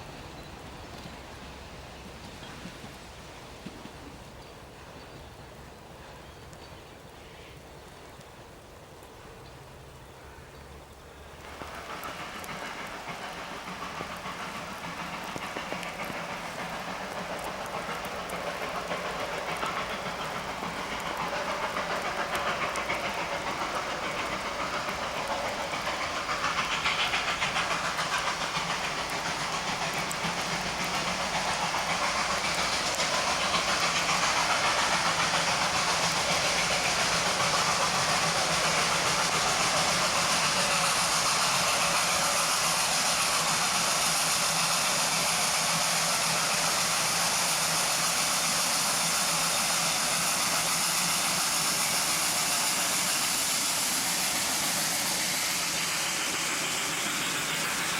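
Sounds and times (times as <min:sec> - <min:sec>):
steam locomotive working: 0:00.0 - 0:57.9.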